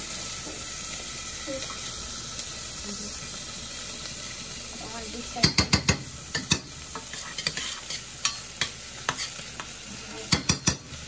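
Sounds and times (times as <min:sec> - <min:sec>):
onions sizzling in butter: 0:00.0 - 0:11.0.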